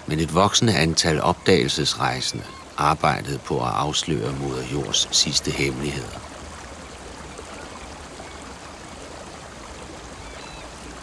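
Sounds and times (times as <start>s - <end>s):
flowing water: 0.0s - 11.0s.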